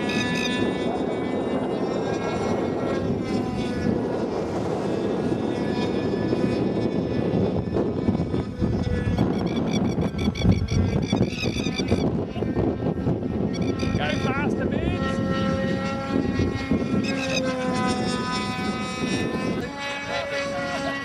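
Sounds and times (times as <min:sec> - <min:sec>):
model airplane engine drone: 0:00.0 - 0:21.0
wind rumble on microphone: 0:00.0 - 0:21.0.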